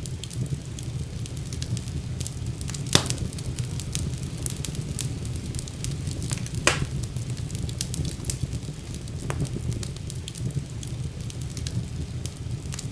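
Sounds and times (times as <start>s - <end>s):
fire crackling and popping: 0.0s - 12.9s.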